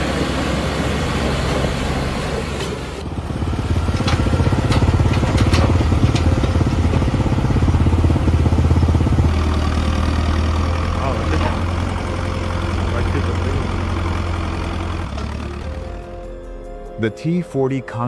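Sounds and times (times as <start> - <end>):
tractor diesel engine droning: 0.0 - 18.0.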